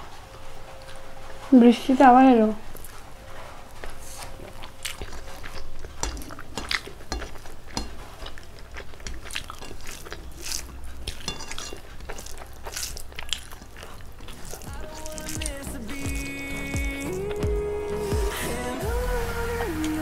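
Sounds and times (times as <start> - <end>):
person chewing food: 2.6 - 20.0.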